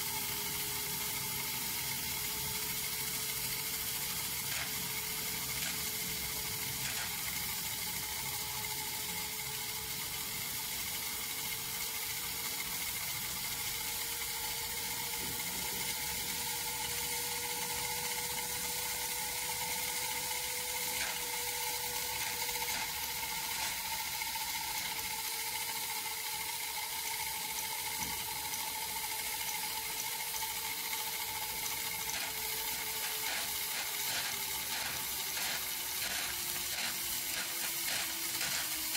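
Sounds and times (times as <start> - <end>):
toy steam turbine hissing: 0.0 - 38.9.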